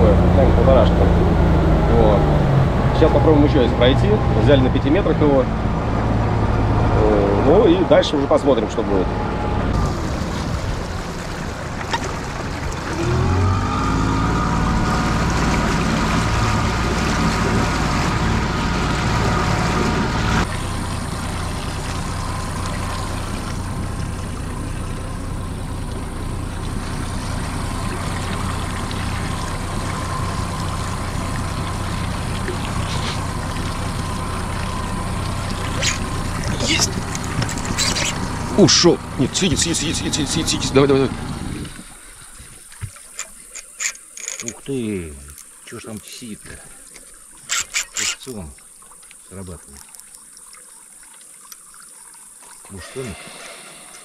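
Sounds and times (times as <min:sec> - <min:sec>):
outboard motor running: 0:00.0 - 0:49.9
water noise: 0:00.0 - 0:54.0.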